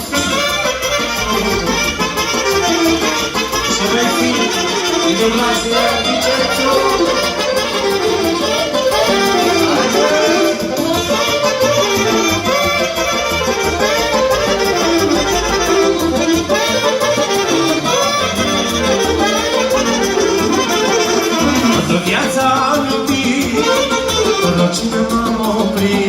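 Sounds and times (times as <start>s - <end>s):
instrumental pop melody: 0.0s - 26.0s
steady bass beat: 0.0s - 26.0s.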